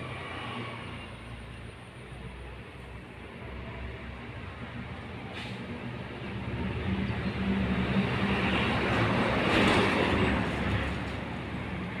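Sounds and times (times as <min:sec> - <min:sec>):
passing vehicle engine hum: 0:00.0 - 0:12.0.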